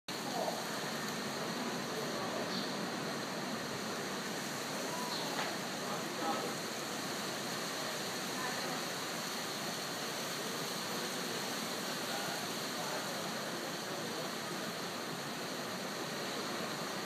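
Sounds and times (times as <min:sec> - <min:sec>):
ocean surf rushing: 0:00.1 - 0:17.0.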